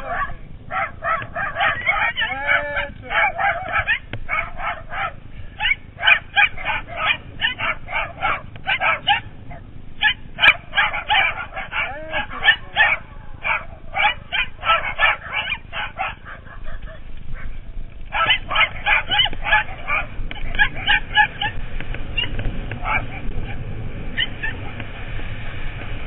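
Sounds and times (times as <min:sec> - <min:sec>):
small dogs barking and yipping: 0:00.0 - 0:25.1.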